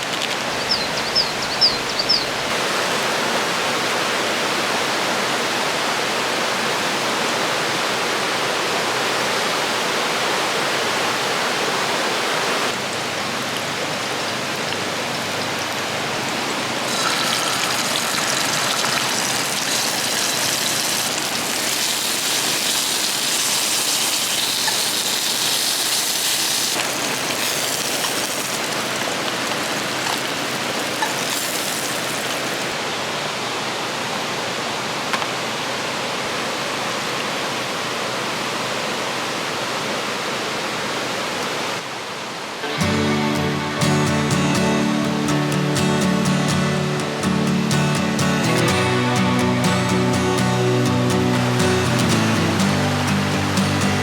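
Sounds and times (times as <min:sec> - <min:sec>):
river water rushing over rocks: 0:02.4 - 0:42.8, 0:51.1 - 0:54.0.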